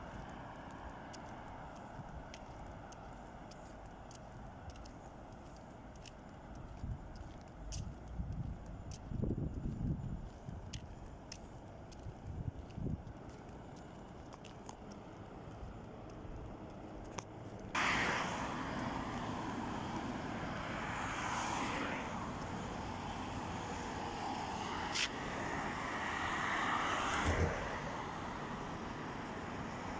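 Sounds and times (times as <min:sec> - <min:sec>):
cars passing: 0:00.0 - 0:29.9.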